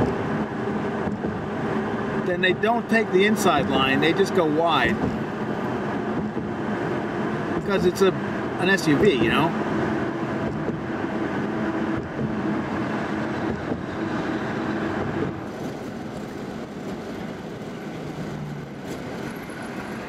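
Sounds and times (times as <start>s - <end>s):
car engine hum: 0.0s - 20.0s
wind and road noise: 0.0s - 20.0s.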